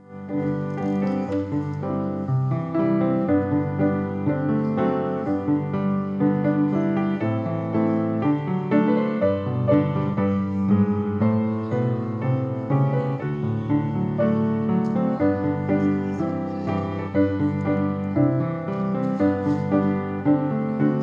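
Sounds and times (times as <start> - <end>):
piano playing church music: 0.0 - 21.0.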